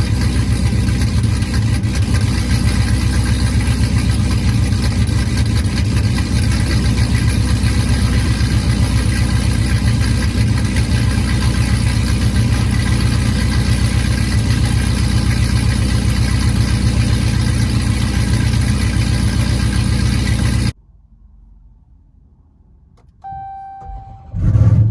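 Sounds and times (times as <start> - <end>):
car engine idling loudly: 0.0 - 20.8.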